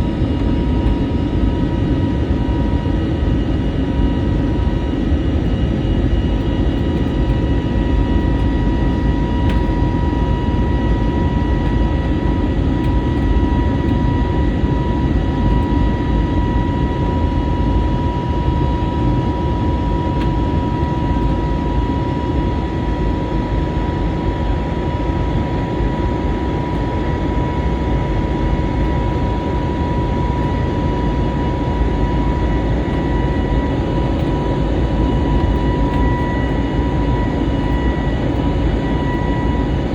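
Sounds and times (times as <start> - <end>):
airliner cabin engine rumble: 0.0 - 39.9
constant engine whine: 0.0 - 39.9.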